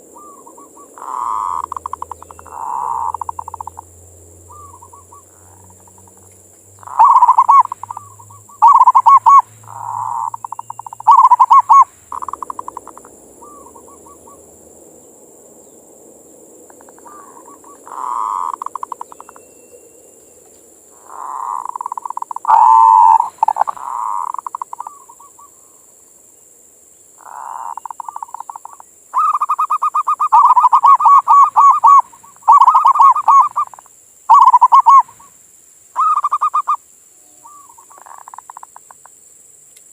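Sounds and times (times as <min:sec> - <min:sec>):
dove cooing in trills: 0:00.0 - 0:14.6, 0:16.7 - 0:19.8, 0:20.9 - 0:25.8, 0:27.2 - 0:35.3, 0:36.0 - 0:39.0.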